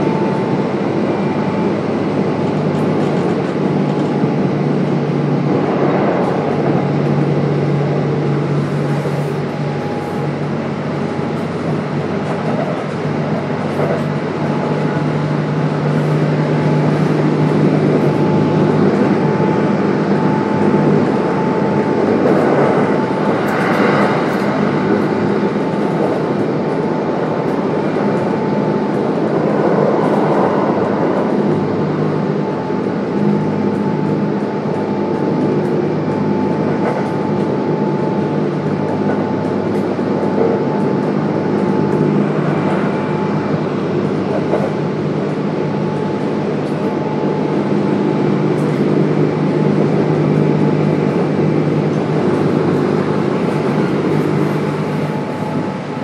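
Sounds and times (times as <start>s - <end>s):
electric train motor hum: 0.0s - 56.0s
train wheels on rails: 0.0s - 56.0s.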